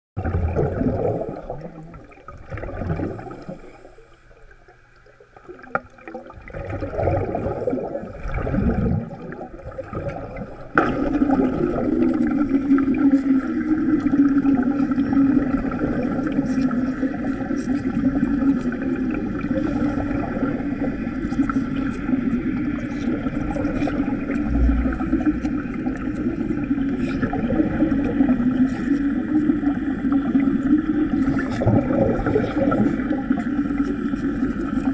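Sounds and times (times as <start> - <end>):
underwater welding bubbling: 0.2 - 34.9.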